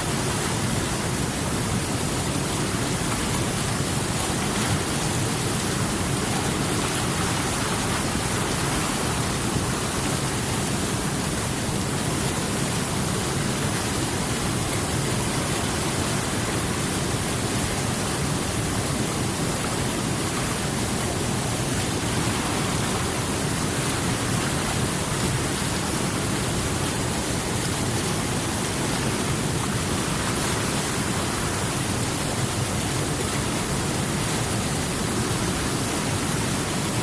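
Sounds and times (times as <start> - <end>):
flowing water rushing: 0.0 - 37.0.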